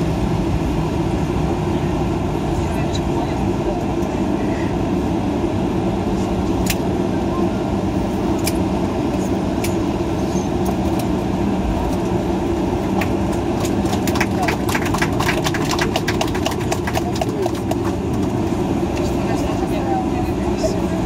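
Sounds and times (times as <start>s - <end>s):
aircraft engine rumble and hum: 0.0s - 21.0s.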